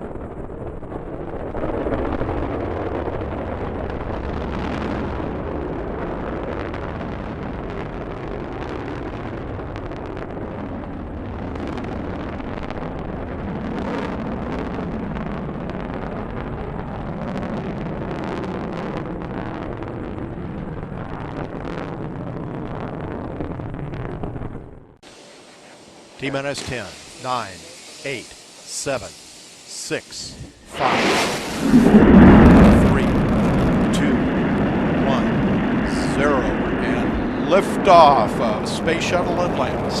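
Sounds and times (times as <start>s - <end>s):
rocket engines rumbling: 0.0s - 40.0s.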